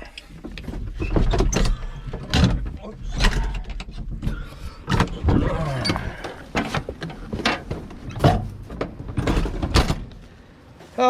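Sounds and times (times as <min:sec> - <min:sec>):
knocks and clanks: 0:00.4 - 0:10.2.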